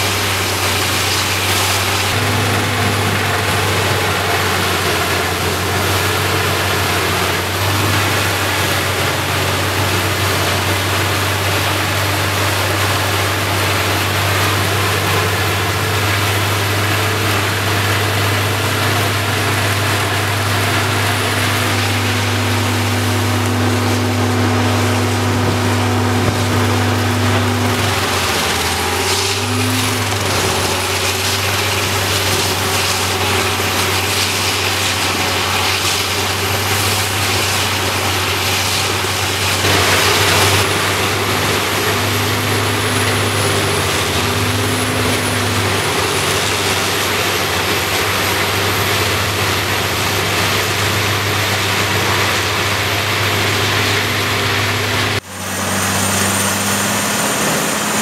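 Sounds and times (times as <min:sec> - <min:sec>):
drum chipper engine drone: 0:00.0 - 0:58.0
rush of wood chips: 0:00.0 - 0:58.0.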